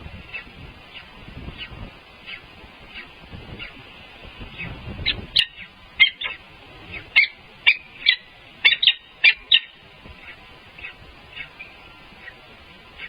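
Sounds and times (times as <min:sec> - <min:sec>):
eagles calling: 0:00.0 - 0:13.0.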